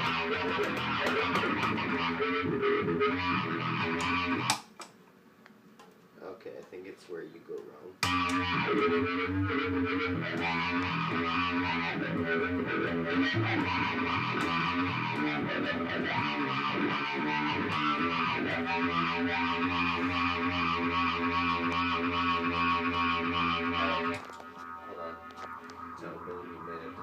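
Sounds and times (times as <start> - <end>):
distorted electric guitar music: 0.0 - 4.6, 8.0 - 27.0.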